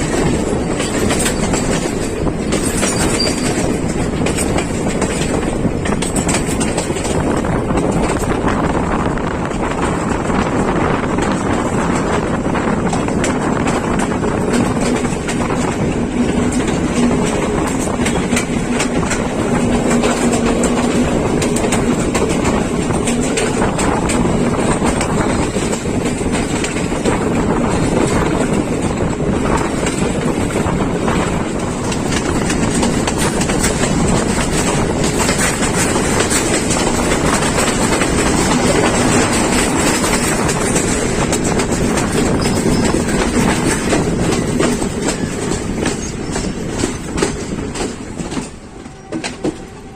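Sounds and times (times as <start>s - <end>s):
passenger train rumbling on track: 0.0s - 49.9s.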